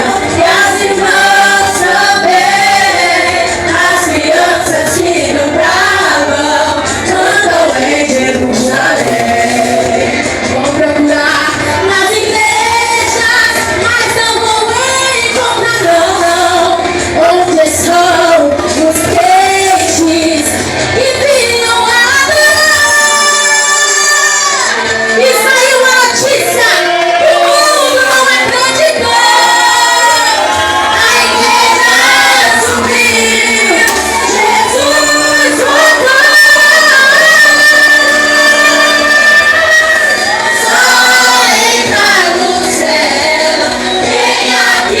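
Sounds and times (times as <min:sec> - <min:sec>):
backing music: 0:00.0 - 0:45.0
group singing praise song: 0:00.0 - 0:45.0.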